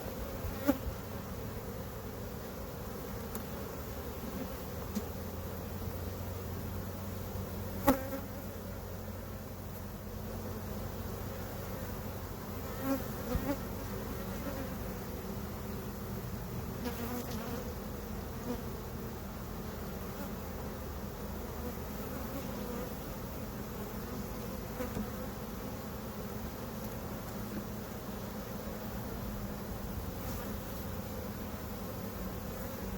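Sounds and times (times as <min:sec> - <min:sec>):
bees buzzing: 0:00.0 - 0:32.9.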